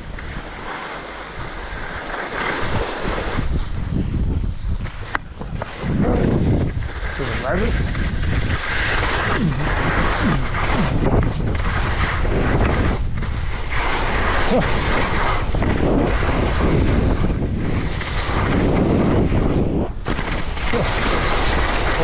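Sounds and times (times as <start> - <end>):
skis scraping over snow: 0.0 - 22.0
wind rushing over microphone: 0.0 - 22.0.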